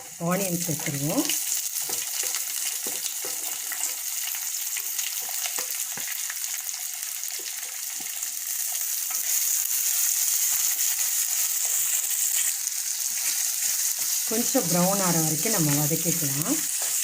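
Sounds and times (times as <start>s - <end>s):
onion frying in oil: 0.0s - 17.0s.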